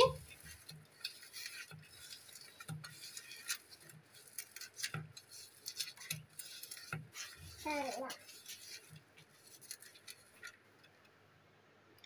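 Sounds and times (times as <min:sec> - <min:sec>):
fingers squeezing wet vegetables: 0:00.0 - 0:11.0.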